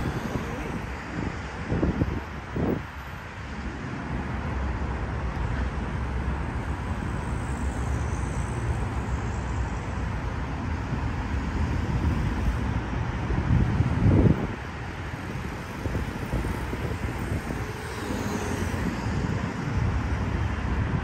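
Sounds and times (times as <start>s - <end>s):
highway traffic rumble: 0.0s - 21.0s.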